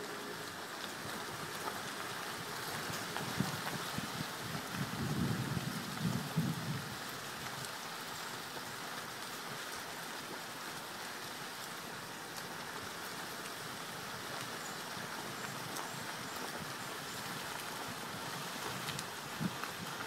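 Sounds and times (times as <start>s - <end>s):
tyres hissing on wet dirt road: 0.0s - 20.0s.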